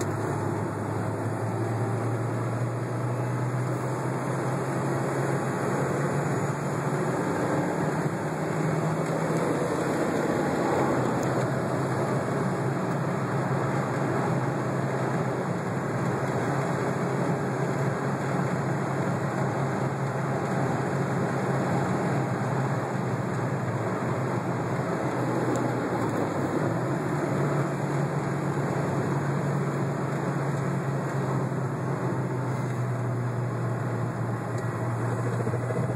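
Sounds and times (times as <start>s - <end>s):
car engine: 0.0s - 35.9s
road noise: 0.0s - 35.9s.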